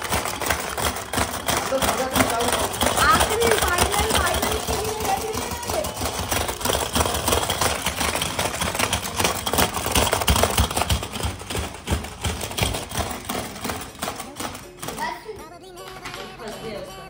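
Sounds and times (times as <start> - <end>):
rapid plastic clacking: 0.0 - 16.7.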